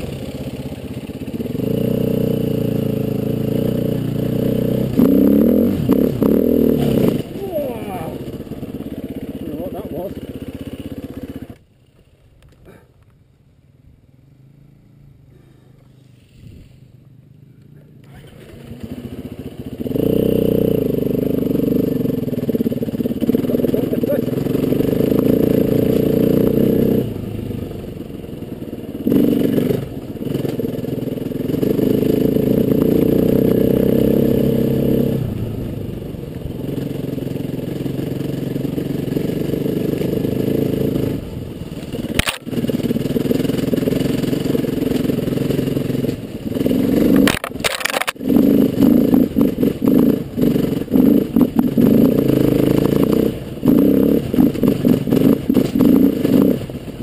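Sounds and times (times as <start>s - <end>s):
motorcycle engine revving: 0.0s - 12.0s, 13.6s - 57.0s.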